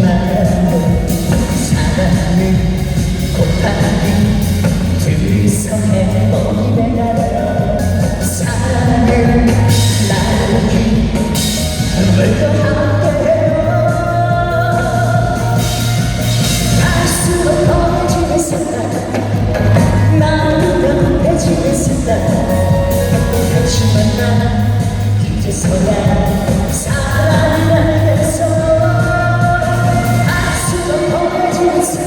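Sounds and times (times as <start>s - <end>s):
instrumental accompaniment: 0.0s - 32.0s
man singing: 0.0s - 32.0s.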